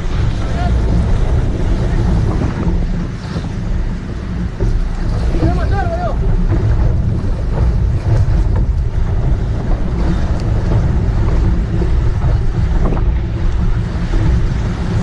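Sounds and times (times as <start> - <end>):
hull slapping through water: 0.0 - 15.0
speedboat engine drone: 0.0 - 15.0
wind buffeting microphone: 0.0 - 15.0.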